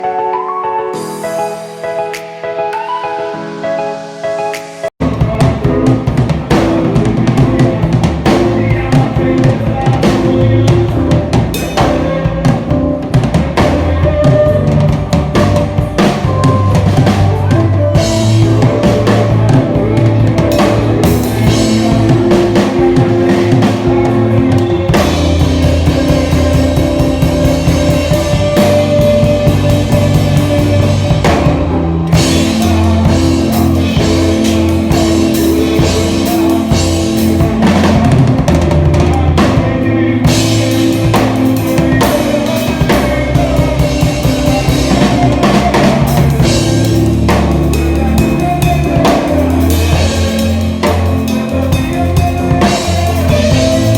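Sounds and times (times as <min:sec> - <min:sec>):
worship band music: 0:00.0 - 0:53.9
drum kit beat: 0:00.9 - 0:53.9.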